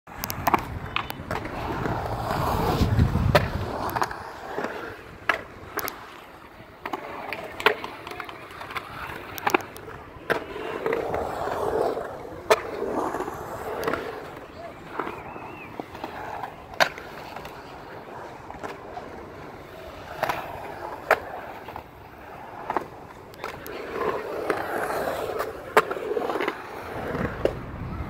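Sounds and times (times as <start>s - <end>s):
skateboard clacks: 0.1s - 28.0s
skateboard wheels rolling on concrete: 0.1s - 28.0s.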